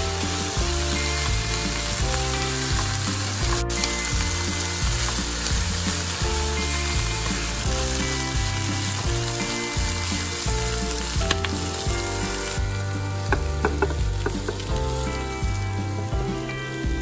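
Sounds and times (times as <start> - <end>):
background music: 0.0 - 17.0
vegetables sizzling in hot oil: 0.0 - 17.0.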